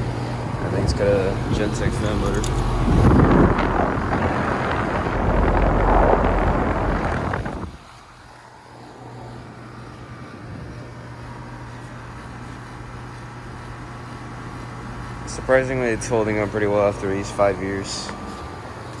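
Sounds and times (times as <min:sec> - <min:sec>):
air conditioner fan rushing air: 0:00.0 - 0:19.0
air conditioner humming: 0:00.0 - 0:19.0.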